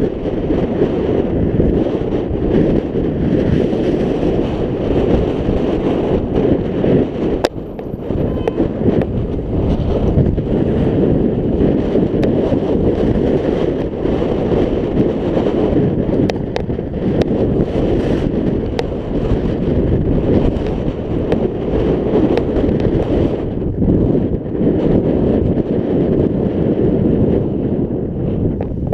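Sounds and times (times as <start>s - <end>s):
wind noise on microphone: 0.0s - 28.9s.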